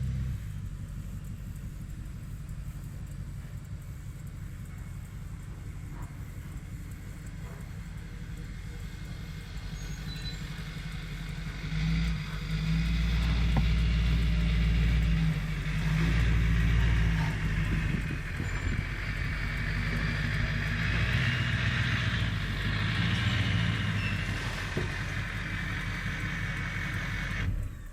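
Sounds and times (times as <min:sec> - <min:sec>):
truck engine revving: 0:00.0 - 0:27.9.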